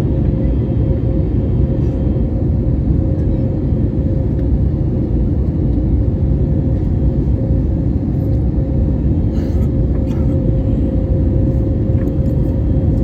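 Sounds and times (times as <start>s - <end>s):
airliner cabin rumble: 0.0s - 13.0s
constant hum: 0.0s - 13.0s.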